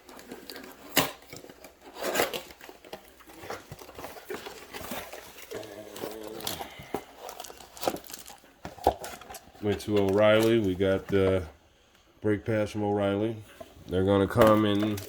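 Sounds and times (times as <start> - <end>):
rustling packaging: 0.0 - 11.5, 13.0 - 15.0.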